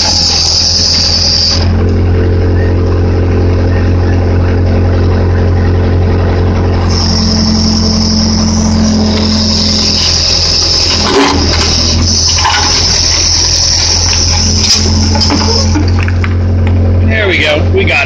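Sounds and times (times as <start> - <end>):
backhoe diesel engine running: 0.0 - 18.0
high whine: 0.0 - 18.0.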